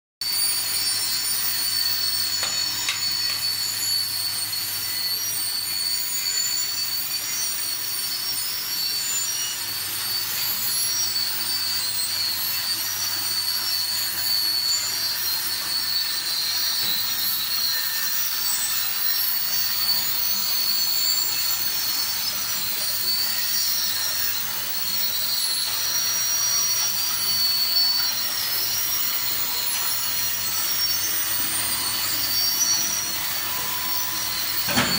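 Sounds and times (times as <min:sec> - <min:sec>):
water jets hissing: 0:00.2 - 0:34.9.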